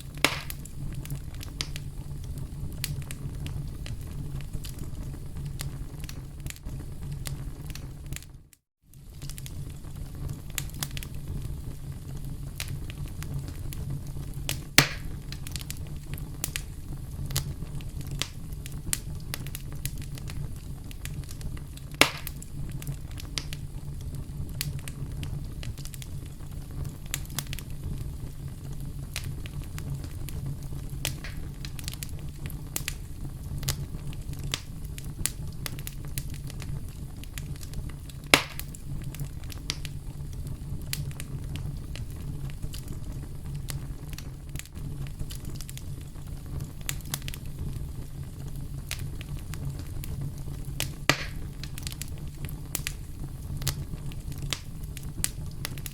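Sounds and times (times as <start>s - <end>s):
campfire crackling and popping: 0.0s - 55.9s
steady low rumble: 9.0s - 55.9s.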